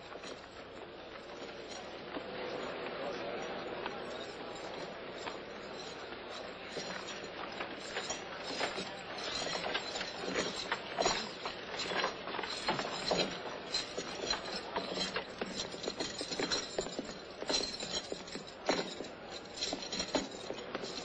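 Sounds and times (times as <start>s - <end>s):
steady clattering: 3.4s - 21.0s
footsteps on wooden stairs: 3.9s - 21.0s.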